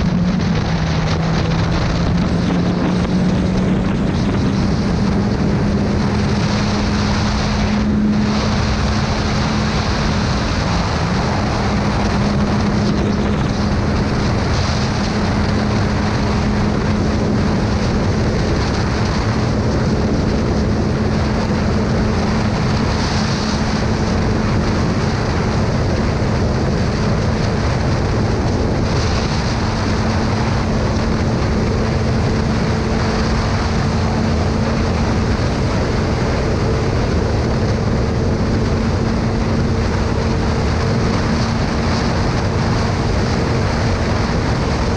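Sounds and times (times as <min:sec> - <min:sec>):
motorcycle engine hum: 0:00.0 - 0:44.9
wind noise: 0:00.0 - 0:44.9.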